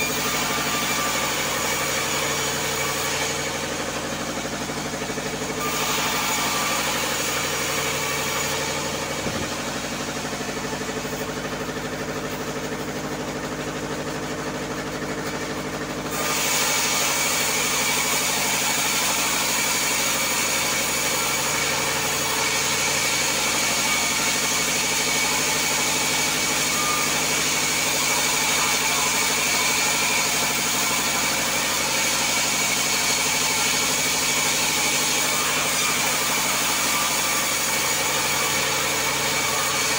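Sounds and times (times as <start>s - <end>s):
saw blade cutting timber: 0.0s - 39.9s
sawmill humming: 0.0s - 39.9s.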